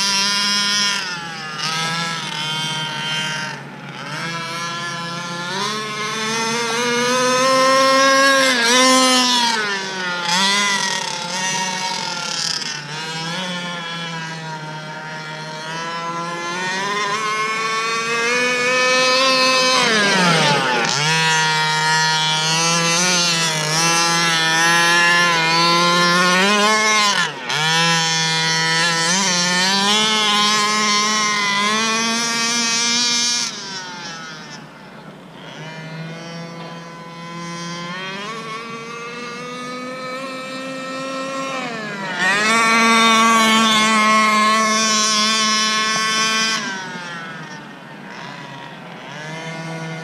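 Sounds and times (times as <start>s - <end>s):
small two-stroke engine revving: 0.0s - 50.0s.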